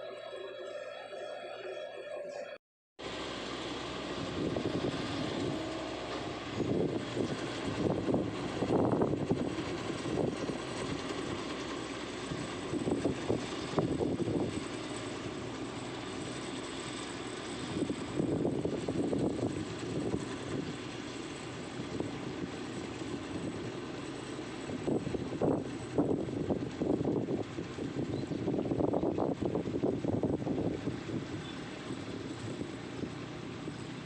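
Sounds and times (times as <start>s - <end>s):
heavy machinery diesel engine: 3.0s - 34.0s.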